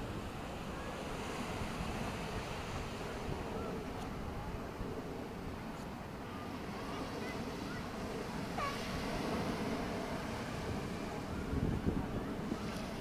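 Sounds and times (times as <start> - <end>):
surf washing: 0.0 - 13.0
wind rumbling on microphone: 0.0 - 13.0.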